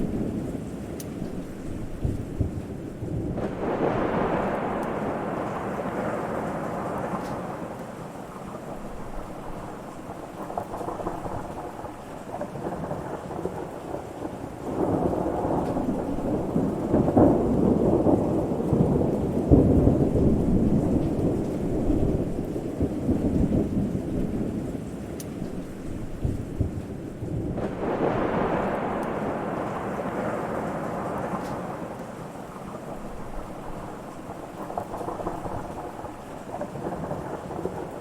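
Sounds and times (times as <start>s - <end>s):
rolling thunder: 0.0s - 38.0s
steady rain: 0.0s - 38.0s.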